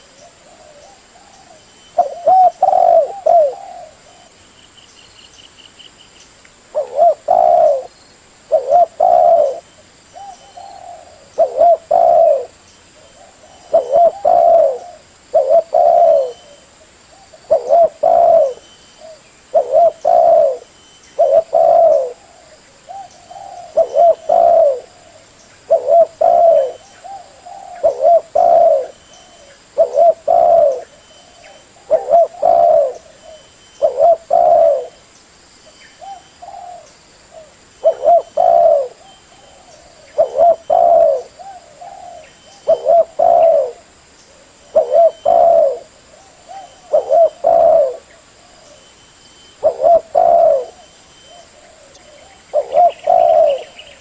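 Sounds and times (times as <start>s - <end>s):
dove cooing: 0.0s - 4.4s, 6.7s - 35.0s, 36.0s - 48.9s, 49.6s - 54.0s.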